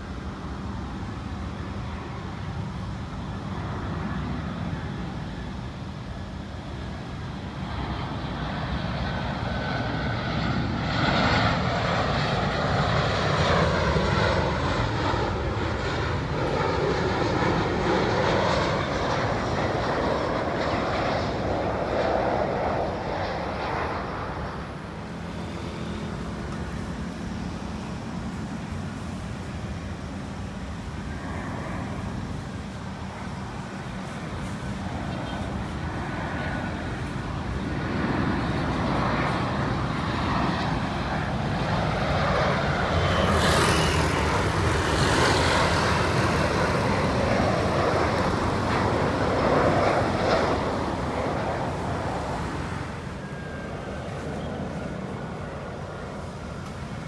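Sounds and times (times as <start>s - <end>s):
jet passing overhead: 0.0s - 57.0s.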